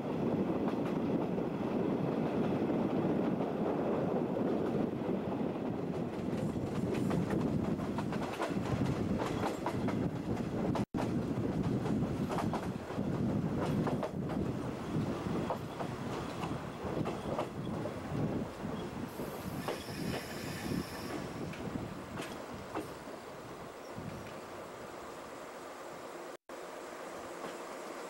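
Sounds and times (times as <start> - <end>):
train coach rumbling on track: 0.0 - 28.0.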